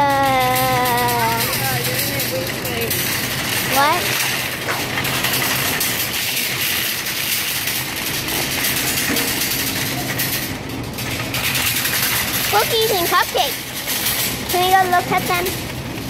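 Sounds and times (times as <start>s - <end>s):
shopping cart wheels rolling: 0.0s - 16.0s
metal basket rattling: 0.1s - 16.0s.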